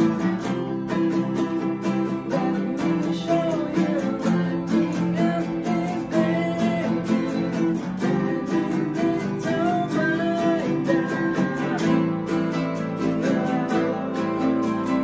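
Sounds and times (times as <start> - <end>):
acoustic guitars strumming: 0.0 - 15.0
guitar melody line bending: 0.0 - 15.0.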